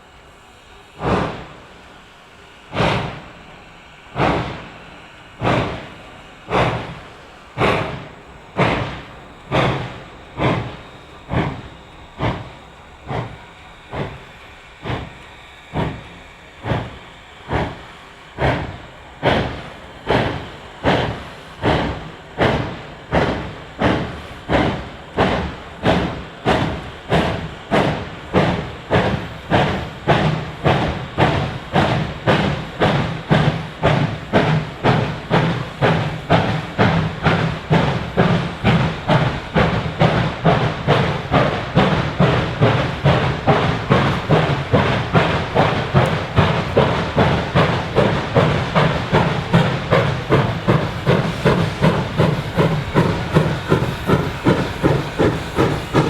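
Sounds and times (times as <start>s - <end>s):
steam locomotive chuffing: 0.0s - 56.0s.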